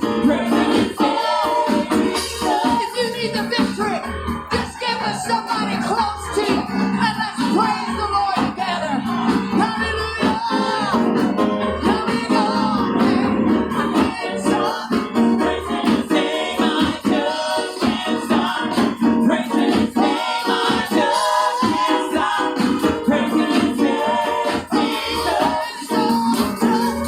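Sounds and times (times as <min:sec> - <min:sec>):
choir singing: 0:00.0 - 0:27.0
instrumental accompaniment: 0:00.0 - 0:27.0.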